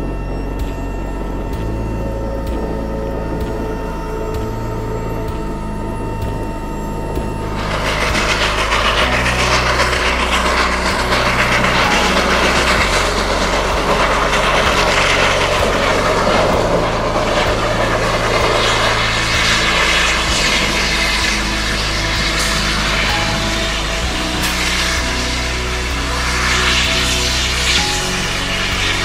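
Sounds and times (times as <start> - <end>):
snowplow machinery roaring: 0.0 - 29.0.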